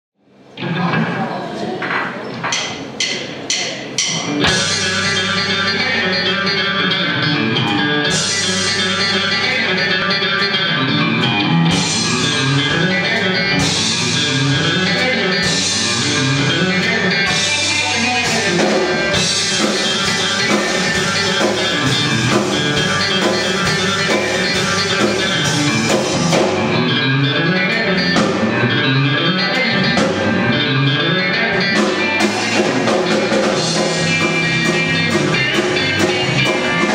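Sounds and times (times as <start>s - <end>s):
rock band playing: 2.1s - 36.9s.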